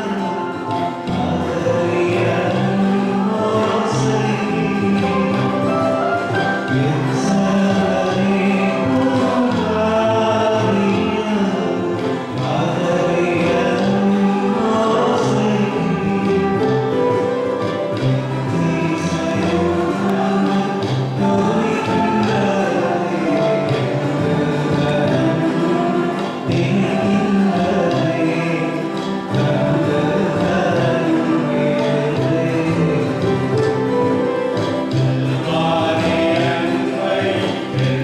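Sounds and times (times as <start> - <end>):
mixed choir singing a carol: 0.0 - 38.0.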